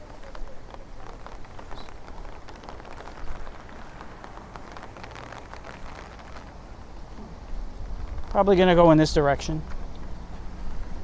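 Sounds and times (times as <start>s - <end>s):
rain falling: 0.0s - 11.0s
wind rumble on microphone: 0.0s - 11.0s.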